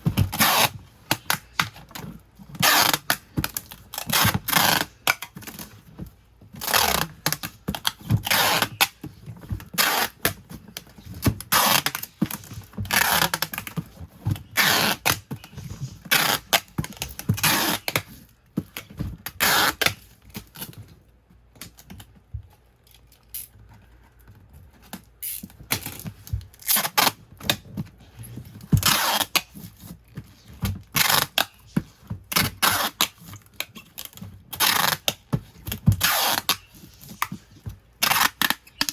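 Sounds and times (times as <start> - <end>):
paper and cardboard rustling: 0.0 - 38.9.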